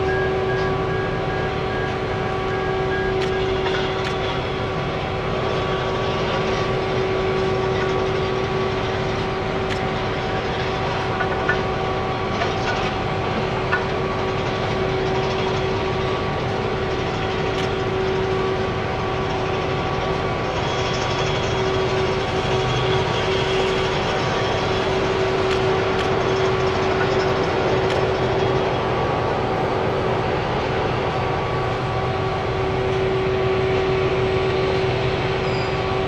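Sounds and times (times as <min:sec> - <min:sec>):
heavy machine engine running: 0:00.0 - 0:36.0
high whine: 0:00.0 - 0:36.0.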